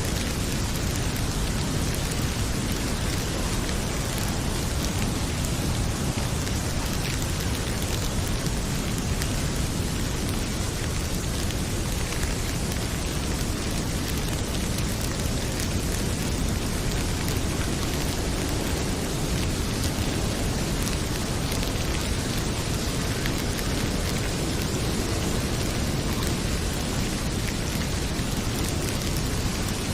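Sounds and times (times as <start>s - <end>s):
heavy rain pouring: 0.0s - 29.9s
wood fire crackling: 0.0s - 29.9s.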